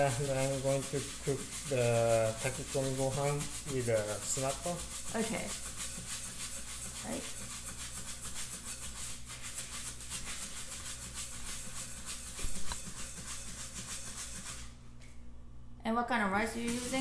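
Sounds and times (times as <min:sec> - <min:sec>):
rice grains rattling in a pot: 0:00.0 - 0:14.7.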